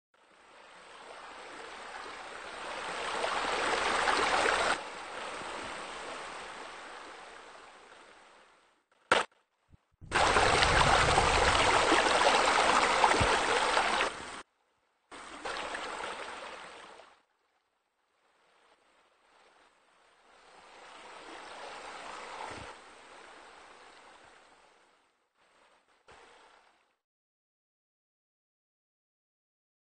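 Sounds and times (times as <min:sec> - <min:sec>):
splashing water features: 0:00.2 - 0:09.3, 0:10.0 - 0:14.5, 0:15.1 - 0:26.9.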